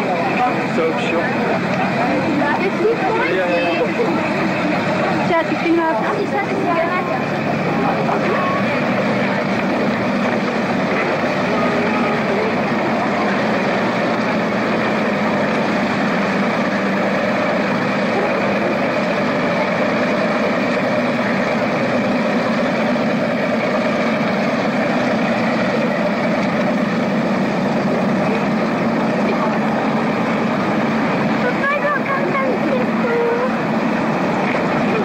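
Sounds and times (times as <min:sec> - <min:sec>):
boat engines running: 0:00.0 - 0:35.0.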